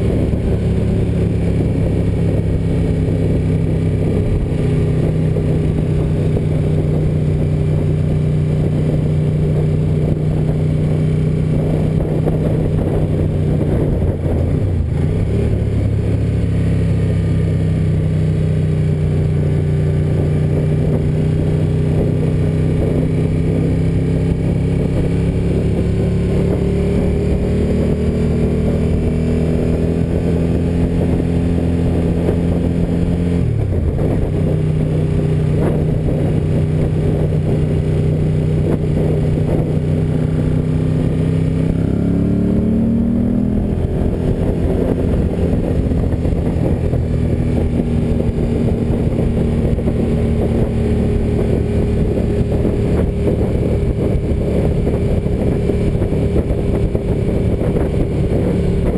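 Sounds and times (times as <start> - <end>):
motorcycle engine cruising: 0.0 - 58.9
road noise: 0.0 - 58.9
wind noise: 0.0 - 58.9.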